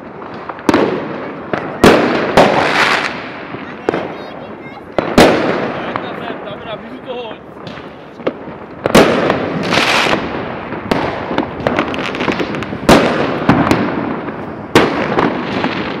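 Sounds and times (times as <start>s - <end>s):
fireworks crackling: 0.0s - 16.0s
loud firework bangs: 0.0s - 16.0s.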